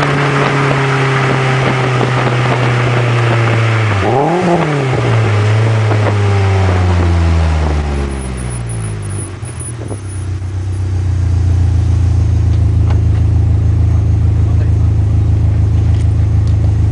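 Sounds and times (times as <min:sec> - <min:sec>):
car engine revving and idling: 0:00.0 - 0:16.9.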